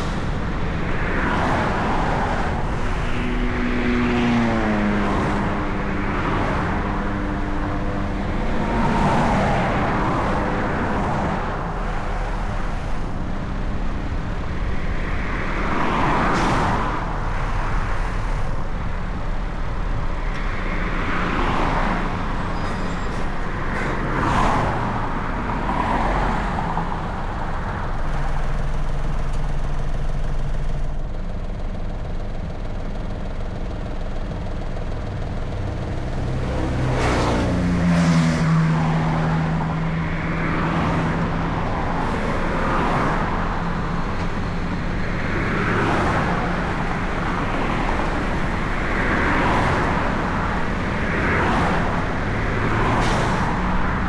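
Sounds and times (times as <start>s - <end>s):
road and engine noise: 0.0s - 54.0s
vehicles passing by: 0.0s - 54.0s.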